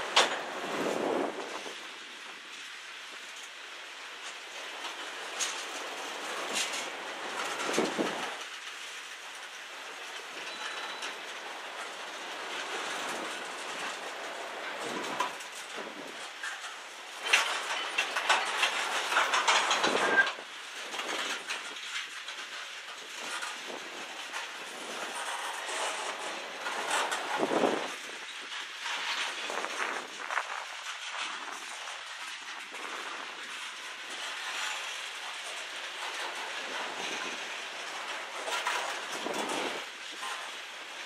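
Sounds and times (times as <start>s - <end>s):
train wheels clattering over rails: 0.0s - 1.9s, 4.2s - 41.0s.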